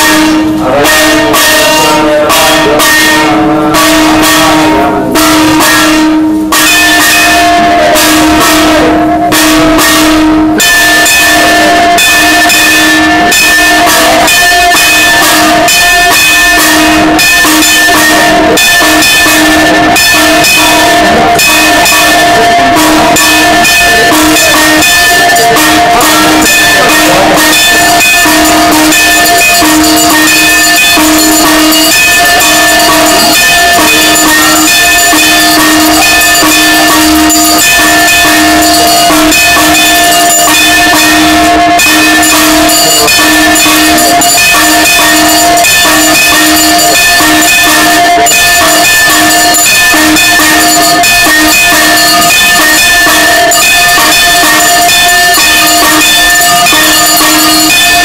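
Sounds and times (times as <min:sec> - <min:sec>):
bells ringing rapidly: 0:00.0 - 0:58.0
drum beats: 0:00.0 - 0:58.0
steady held tones: 0:00.0 - 0:58.0.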